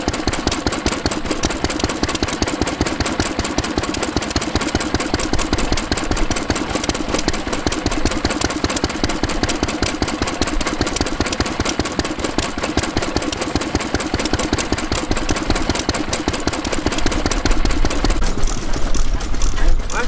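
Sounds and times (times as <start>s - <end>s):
stationary engine running: 0.0s - 20.0s.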